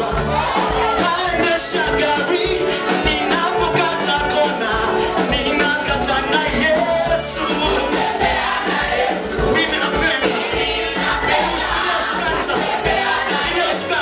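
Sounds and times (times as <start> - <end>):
amplified band: 0.0 - 14.0
group of singers: 0.0 - 14.0
steady drum beat: 0.0 - 14.0.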